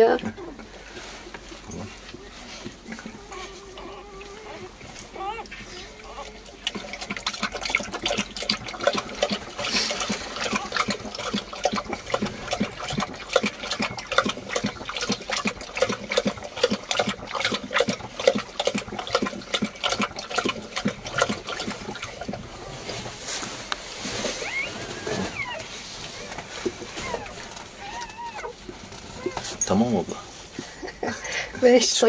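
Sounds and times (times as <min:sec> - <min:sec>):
dog lapping from a bowl: 0:00.0 - 0:31.8.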